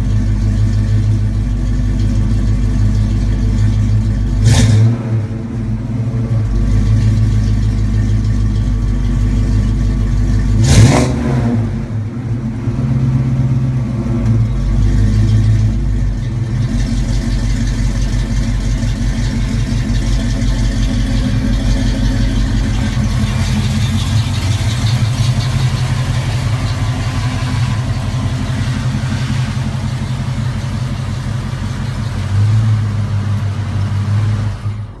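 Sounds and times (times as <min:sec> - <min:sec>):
car engine idling with deep burble: 0:00.0 - 0:35.0.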